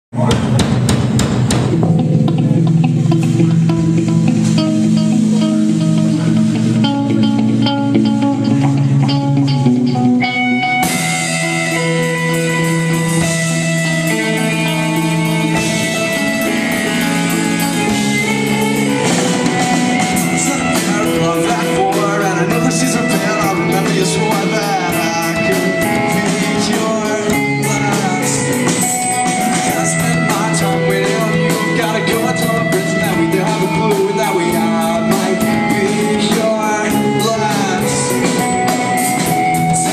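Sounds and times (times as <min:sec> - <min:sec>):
drums hitting: 0:00.1 - 0:07.6, 0:08.6 - 0:39.9
guitar: 0:00.1 - 0:39.9
rock band music: 0:00.1 - 0:39.9
person singing: 0:01.8 - 0:39.9.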